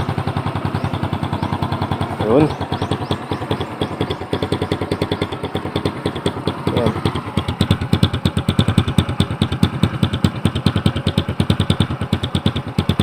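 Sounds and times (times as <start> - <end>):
motorcycle engine idling loudly: 0.0 - 13.0.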